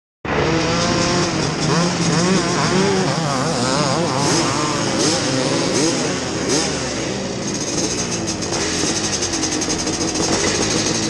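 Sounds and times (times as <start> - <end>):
motorbikes idling and revving: 0.3 - 11.0.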